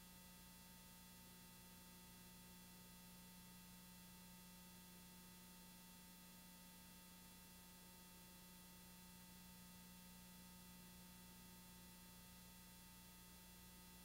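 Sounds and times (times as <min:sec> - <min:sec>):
faint hum and hiss: 0:00.0 - 0:14.0.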